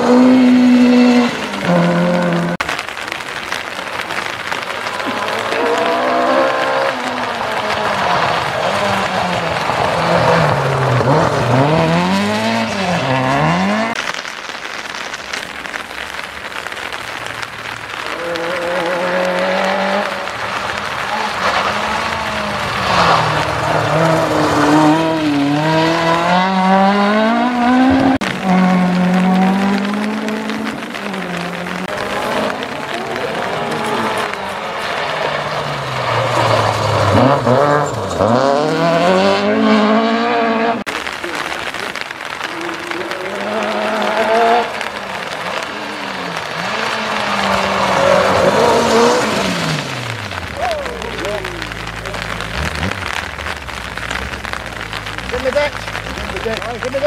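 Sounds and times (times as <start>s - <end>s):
rally car engine revving: 0.0s - 3.6s, 4.2s - 14.2s, 17.8s - 57.0s
tyres on gravel: 0.0s - 57.0s.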